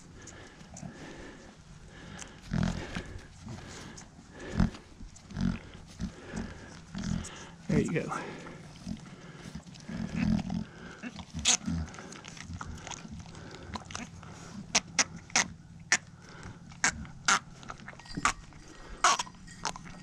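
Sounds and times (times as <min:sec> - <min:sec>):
goat grunting: 0:00.0 - 0:17.8.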